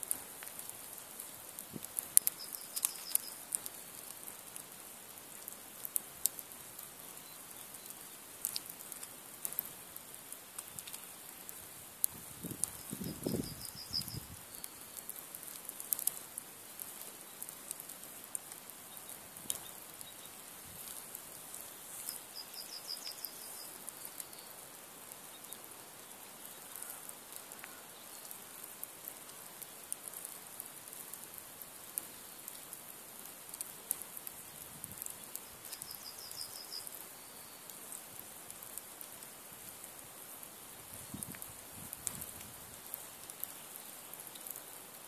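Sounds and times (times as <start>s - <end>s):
log fire crackling: 0.0s - 45.0s.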